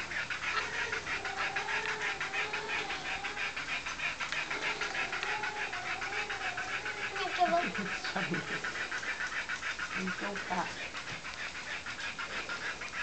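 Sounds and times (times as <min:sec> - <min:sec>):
dog panting rapidly: 0:00.0 - 0:13.0.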